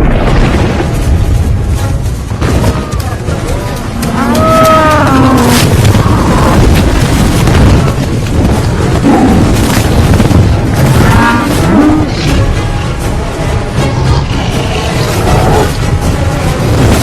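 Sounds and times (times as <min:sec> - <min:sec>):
low rumble with heavy thuds: 0:00.0 - 0:17.0.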